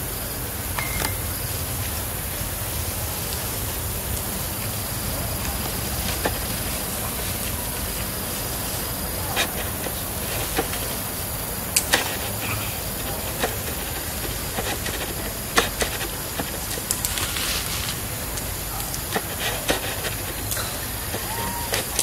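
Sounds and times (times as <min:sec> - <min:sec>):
steady outdoor hiss: 0:00.0 - 0:22.0
snaps and rustles in grass: 0:03.2 - 0:22.0.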